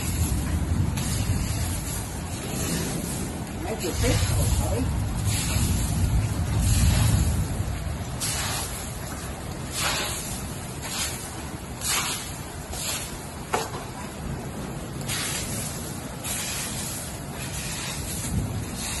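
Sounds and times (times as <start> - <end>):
broom sweeping hailstones: 0.0 - 19.0.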